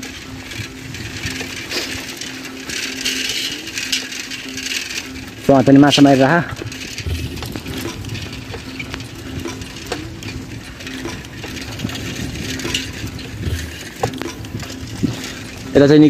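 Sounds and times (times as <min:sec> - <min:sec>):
bicycle rumbling on dirt road: 0:00.0 - 0:16.0
bike rattles and clicks: 0:00.0 - 0:16.0.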